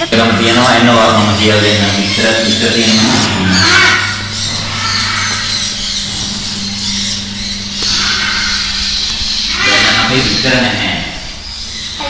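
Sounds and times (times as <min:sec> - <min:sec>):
birds squawking: 0:00.0 - 0:12.0
low electrical hum: 0:00.0 - 0:12.0.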